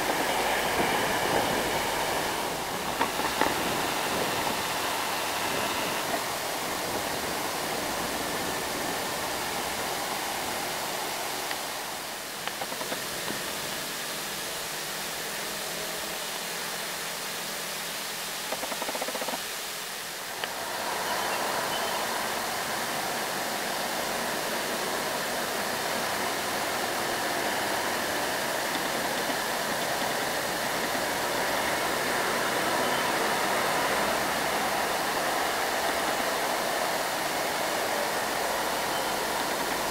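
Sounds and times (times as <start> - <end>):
road traffic rushing hiss: 0.0 - 39.9.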